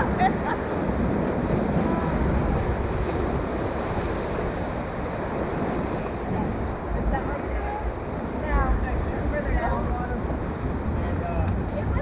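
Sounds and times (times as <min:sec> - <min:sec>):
river water rushing: 0:00.0 - 0:12.0
wind buffeting microphone: 0:00.0 - 0:12.0.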